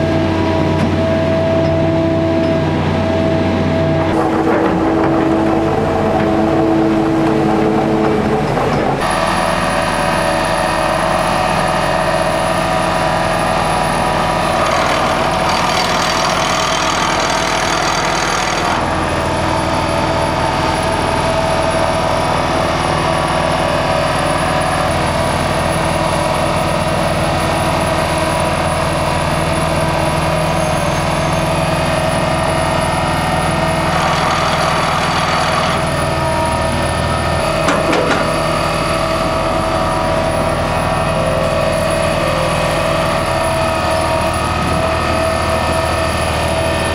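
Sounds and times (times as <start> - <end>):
piling rig engine: 0.0 - 46.9.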